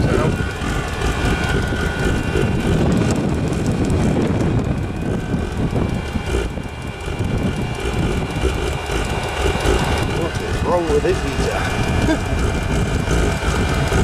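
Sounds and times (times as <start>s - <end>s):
combustion rumble: 0.0s - 14.0s
heater blower whine: 0.0s - 14.0s
wind buffeting microphone: 0.0s - 14.0s.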